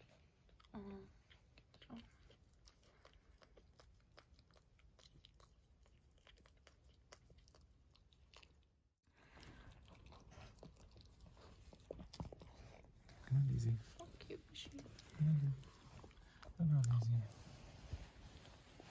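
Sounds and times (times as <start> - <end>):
dog licking puppy: 0.0 - 18.9.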